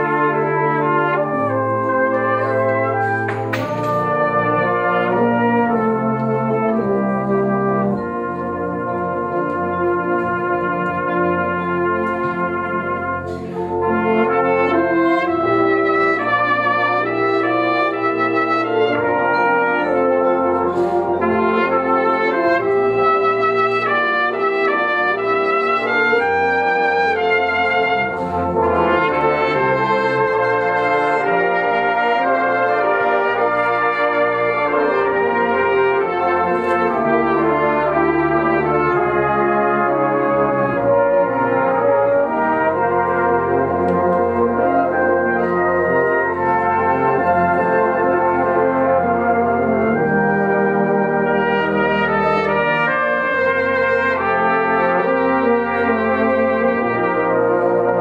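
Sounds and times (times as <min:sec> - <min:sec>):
brass band accompaniment: 0:00.0 - 0:58.0
cornet and euphonium melody: 0:00.0 - 0:58.0.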